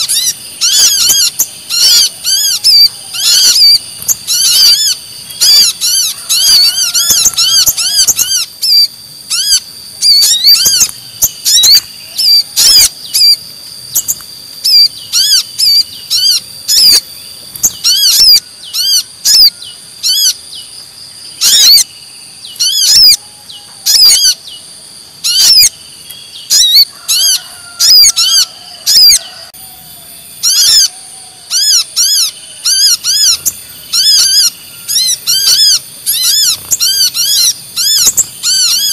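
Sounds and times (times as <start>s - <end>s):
birds chattering with sharp chirps: 0.0s - 38.9s.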